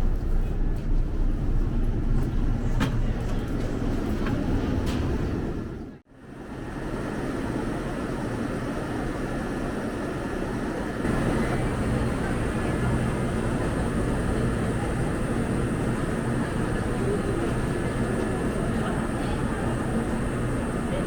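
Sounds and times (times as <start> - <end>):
train running rumble: 0.0 - 9.1, 10.3 - 21.0.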